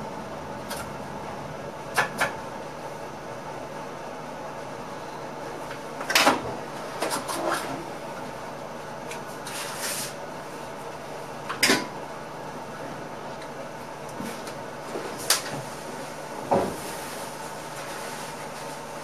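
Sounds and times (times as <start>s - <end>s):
train running hum: 0.0s - 19.0s.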